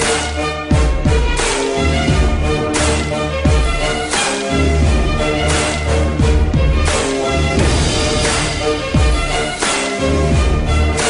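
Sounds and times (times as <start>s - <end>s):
music with bass and steady beat: 0.0s - 11.0s.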